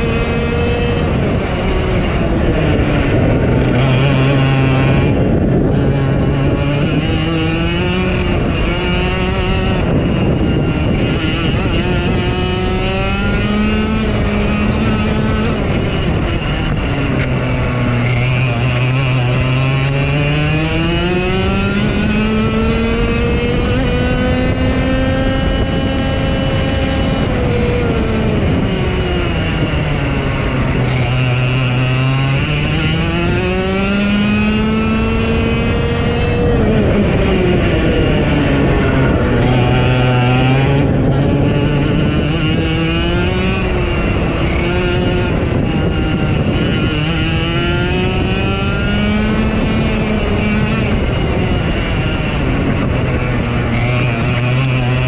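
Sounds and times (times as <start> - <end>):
faint engines: 0.0 - 55.0
race car engine: 0.0 - 55.0.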